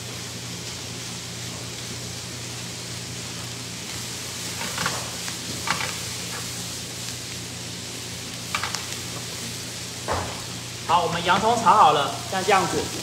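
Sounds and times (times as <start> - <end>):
meat and onions sizzling: 0.0 - 13.0.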